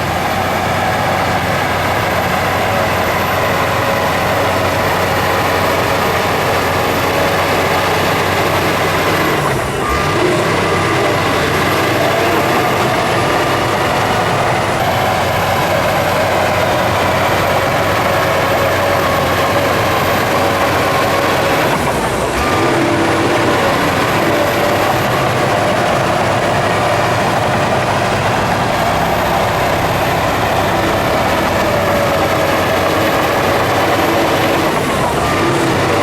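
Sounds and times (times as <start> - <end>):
heavy diesel engine under load: 0.0 - 36.0.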